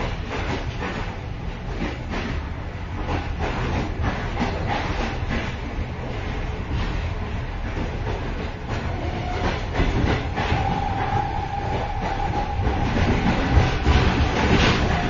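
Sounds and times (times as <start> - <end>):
train rumble and rattling: 0.0 - 15.0.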